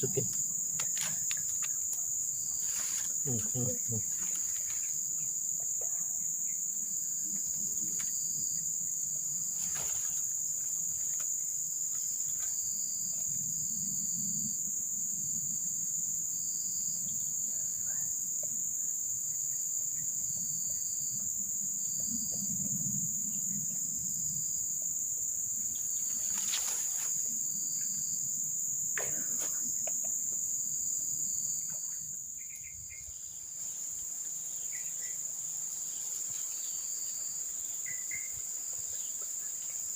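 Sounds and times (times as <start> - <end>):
insects chirring: 0.0 - 39.9
pulsing insect call: 0.0 - 39.9.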